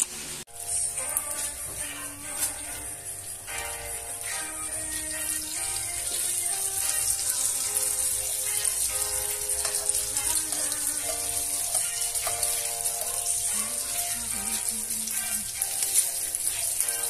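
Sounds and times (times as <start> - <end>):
background music with held notes: 0.0 - 17.0
fish sizzling in hot oil: 0.0 - 17.0.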